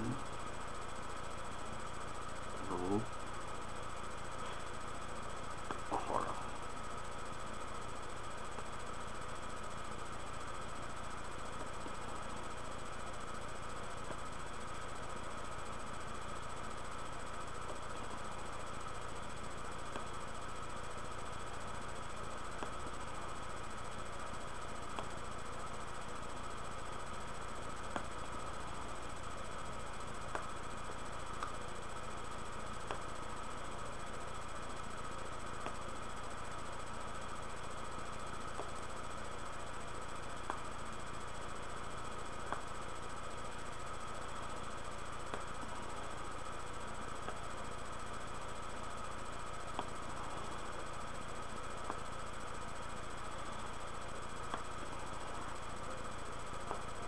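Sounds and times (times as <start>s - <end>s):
background hiss and hum: 0.0s - 57.0s
faint constant whine: 0.0s - 57.0s.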